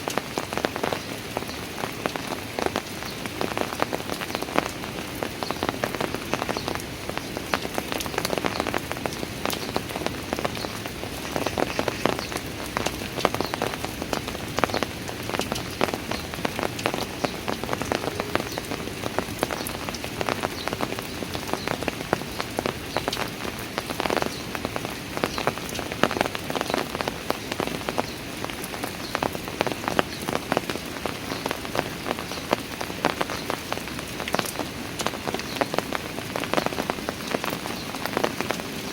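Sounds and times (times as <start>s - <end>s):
rain falling on stairs: 0.0s - 38.9s.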